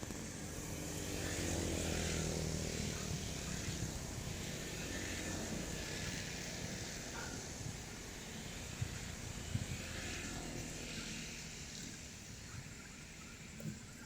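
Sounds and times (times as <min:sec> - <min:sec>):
motor engine passing by: 0:00.0 - 0:13.9.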